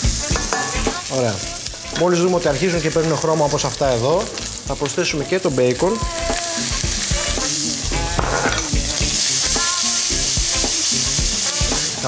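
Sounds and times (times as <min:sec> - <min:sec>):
bacon and onions sizzling in oil: 0:00.0 - 0:12.0.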